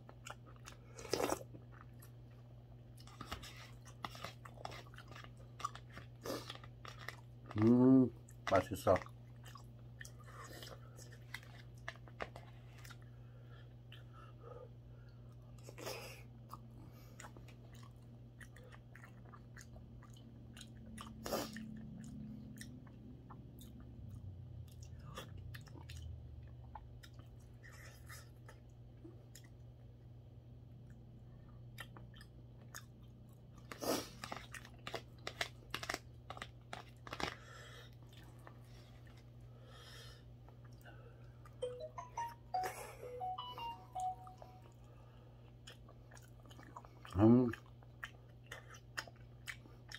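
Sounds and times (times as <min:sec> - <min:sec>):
person chewing and eating: 0:00.0 - 0:49.9.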